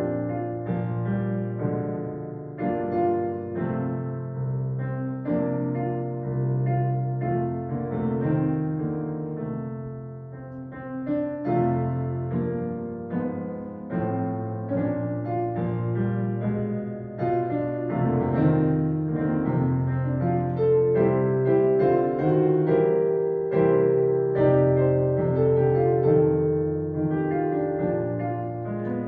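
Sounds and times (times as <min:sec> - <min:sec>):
slow quiet piano chords: 0:00.0 - 0:29.0.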